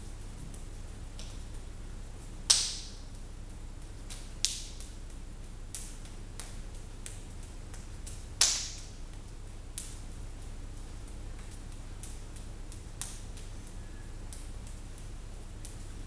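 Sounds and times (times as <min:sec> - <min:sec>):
low room hum: 0:00.0 - 0:16.0
hands slapping forearms: 0:00.1 - 0:01.6, 0:02.4 - 0:03.2, 0:03.8 - 0:16.0.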